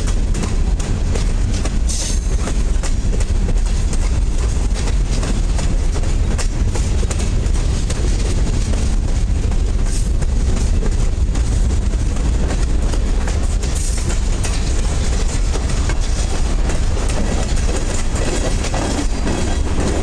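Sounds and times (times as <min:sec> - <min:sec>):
train wheels rumbling on rail: 0:00.0 - 0:20.0
wheels clicking over rail joints: 0:00.0 - 0:20.0.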